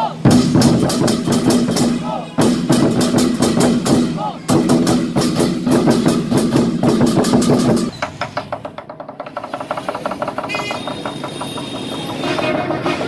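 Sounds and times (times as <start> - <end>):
drums beaten loudly: 0.0 - 13.0.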